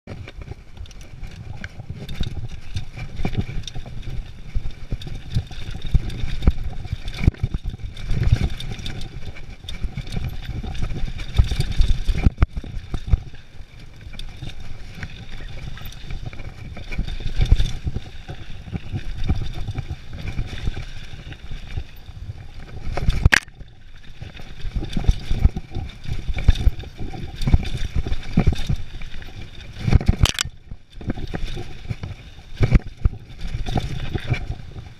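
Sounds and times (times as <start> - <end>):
bike chain and frame rattling: 0.1 - 34.9
tyre and wind rumble: 0.1 - 34.9.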